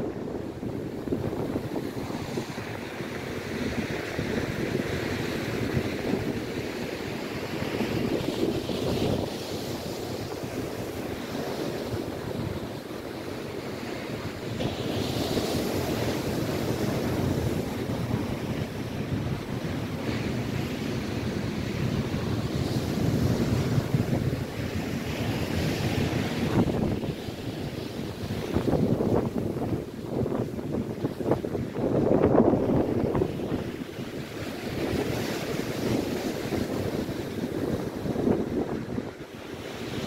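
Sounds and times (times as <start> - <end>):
waves breaking on shore: 0.0 - 40.0
wind buffeting microphone: 0.0 - 40.0.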